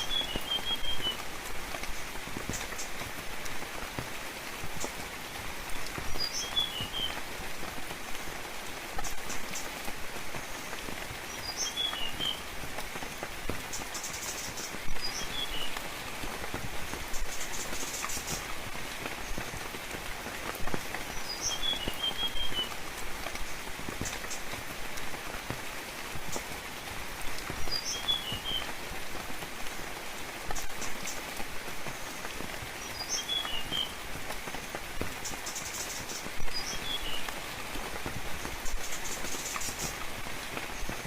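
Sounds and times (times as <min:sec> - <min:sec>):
steady rain: 0:00.0 - 0:41.0
raindrop clicks: 0:00.1 - 0:41.0.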